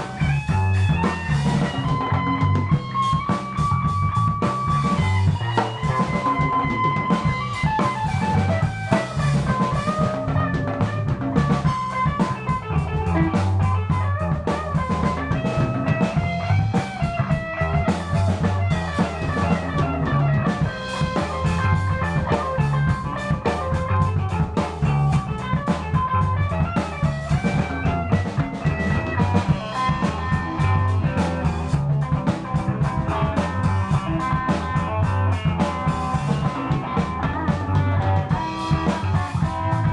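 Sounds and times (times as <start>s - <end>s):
bass line: 0.0s - 39.9s
drum kit beat: 0.0s - 39.9s
electric guitar: 0.0s - 39.9s.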